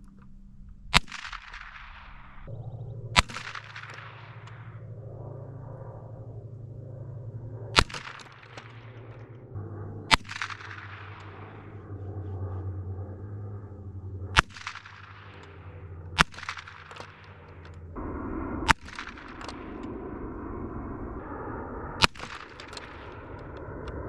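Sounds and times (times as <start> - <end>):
rifle shots with echo: 0.9 - 20.5, 22.0 - 24.0.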